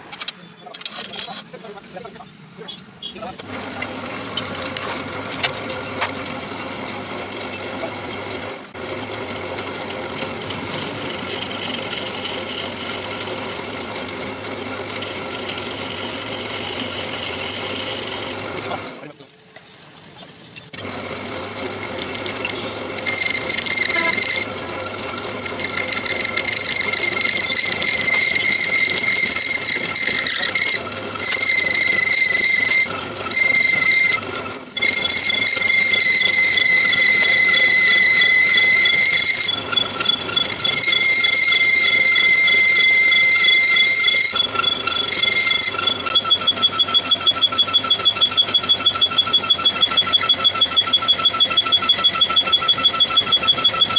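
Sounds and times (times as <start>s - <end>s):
lathe tool squealing on metal: 0.0s - 53.9s.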